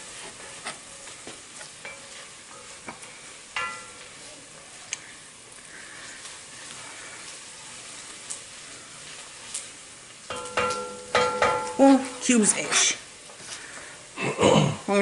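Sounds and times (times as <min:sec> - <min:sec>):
onions sizzling in a pot: 0:00.0 - 0:15.0.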